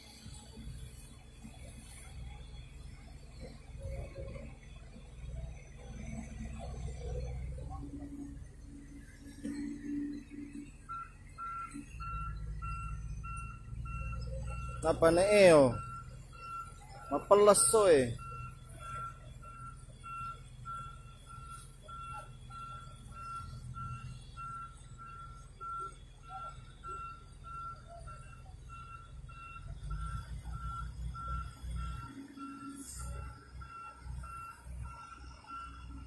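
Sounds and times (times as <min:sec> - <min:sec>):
diesel engine rumbling: 0:00.0 - 0:36.0
excavator warning alarm beeping: 0:00.1 - 0:36.0.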